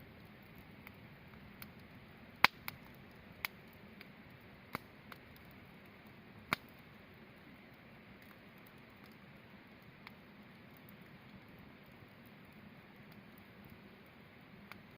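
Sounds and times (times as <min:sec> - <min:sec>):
campfire crackles and pops: 0:00.0 - 0:14.9
campfire hissing: 0:00.0 - 0:14.9.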